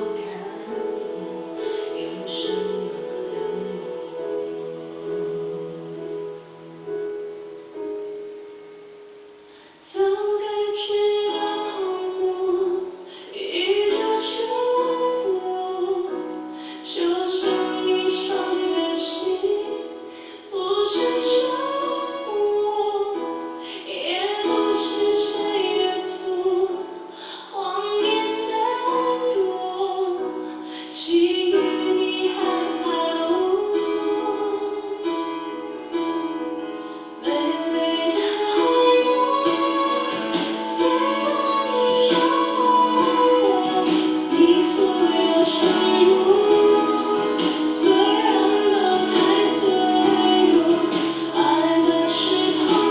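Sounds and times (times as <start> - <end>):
woman singing pop song: 0.0 - 6.6, 9.5 - 52.9
soft musical accompaniment: 0.0 - 52.9.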